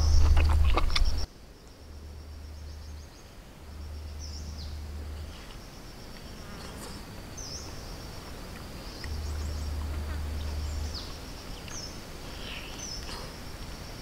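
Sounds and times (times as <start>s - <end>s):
low rumble: 0.0s - 12.5s
birds chirping: 0.0s - 14.0s
insect droning: 0.0s - 14.0s.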